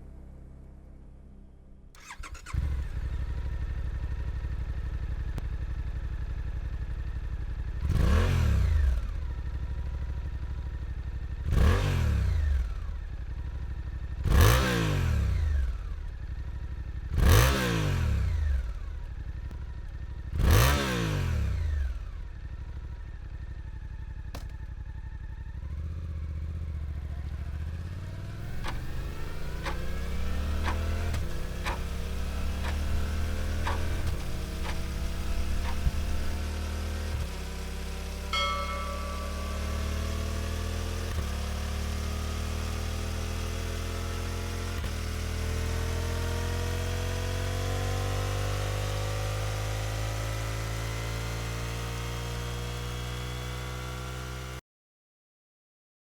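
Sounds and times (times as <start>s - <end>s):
motorcycle engine idling and revving: 1.9s - 54.6s.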